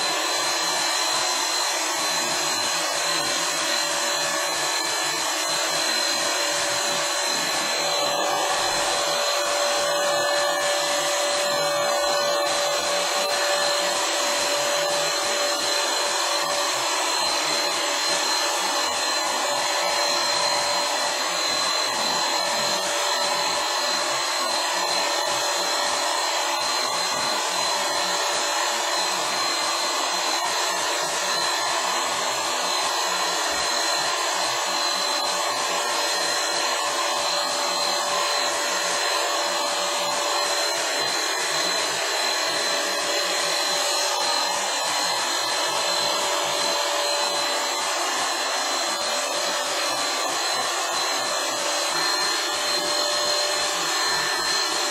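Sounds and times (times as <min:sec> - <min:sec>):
paint spray gun running: 0:00.0 - 0:54.9.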